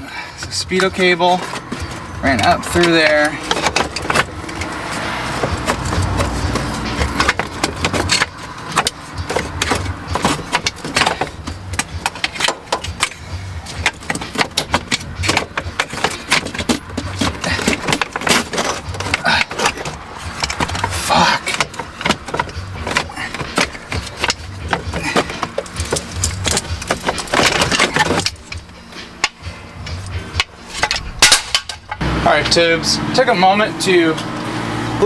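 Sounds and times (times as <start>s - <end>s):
hand tools clicking and rattling: 0.0s - 33.3s.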